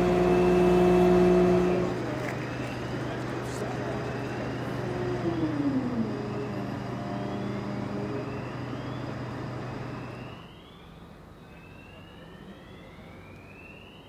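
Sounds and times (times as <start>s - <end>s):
diesel engines humming: 0.0s - 14.0s.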